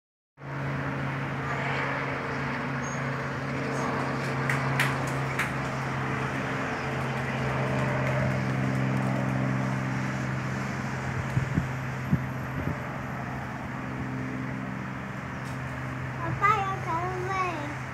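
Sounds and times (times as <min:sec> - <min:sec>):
helicopter drone: 0:00.4 - 0:17.9.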